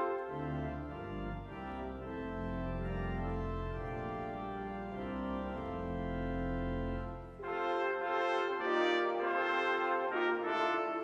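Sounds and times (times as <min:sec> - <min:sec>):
pipe organ playing hymn chords: 0:00.0 - 0:11.0.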